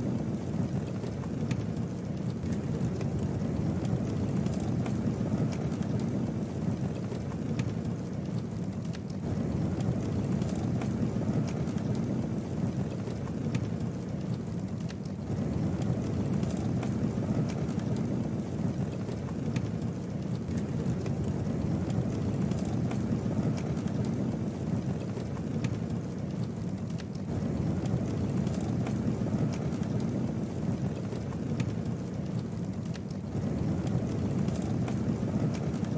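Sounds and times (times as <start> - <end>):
campfire rumbling: 0.0 - 35.9
wood crackling and popping: 0.0 - 35.9.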